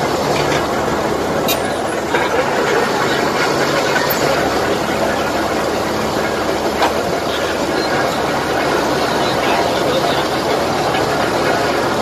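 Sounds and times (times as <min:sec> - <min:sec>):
crane engine under load: 0:00.0 - 0:12.0.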